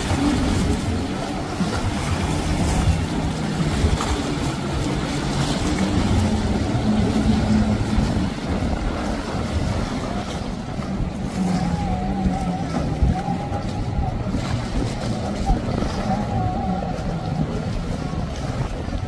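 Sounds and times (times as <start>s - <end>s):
boat engine hum: 0.0s - 19.0s
churning water: 0.0s - 19.0s
wind: 0.0s - 19.0s.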